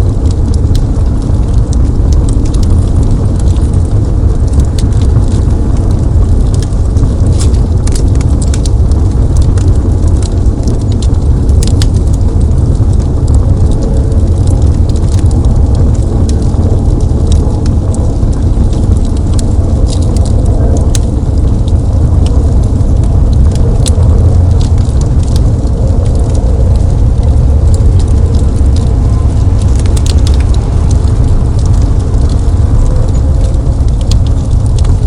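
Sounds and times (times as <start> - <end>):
deep rumble: 0.0 - 35.0
fire crackling and popping: 0.0 - 35.0.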